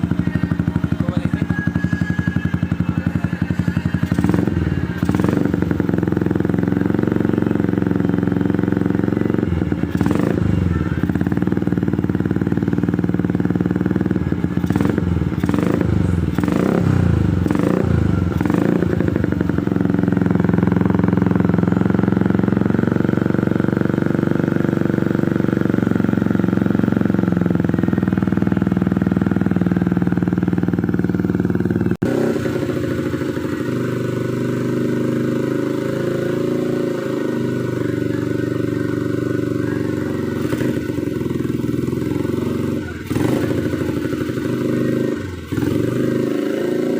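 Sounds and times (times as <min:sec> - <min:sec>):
motorcycle engine revving and idling: 0:00.0 - 0:46.9.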